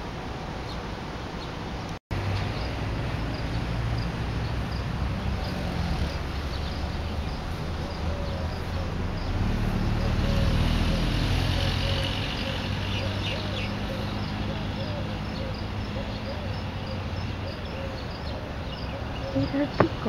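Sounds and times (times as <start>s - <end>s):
city traffic rumble: 0.0s - 20.0s
birds chirping: 0.5s - 20.0s.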